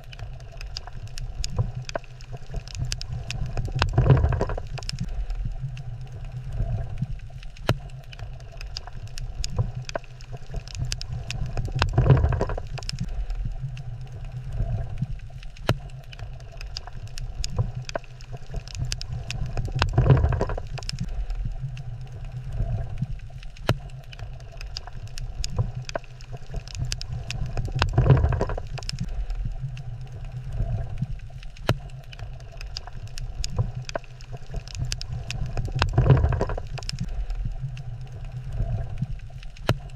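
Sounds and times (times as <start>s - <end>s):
low underwater rumble: 0.0s - 39.9s
sharp underwater clicks: 0.0s - 39.9s.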